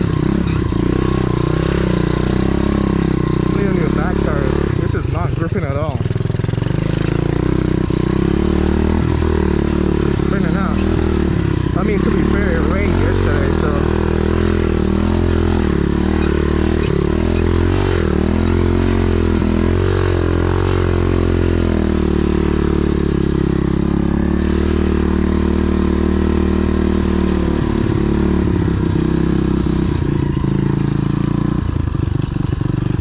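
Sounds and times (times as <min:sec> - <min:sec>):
motorbike engine revving: 0:00.0 - 0:33.0.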